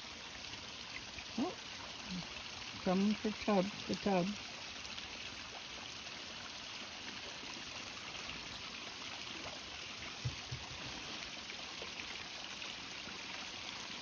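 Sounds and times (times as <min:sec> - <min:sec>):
stream over small waterfall: 0:00.0 - 0:14.0.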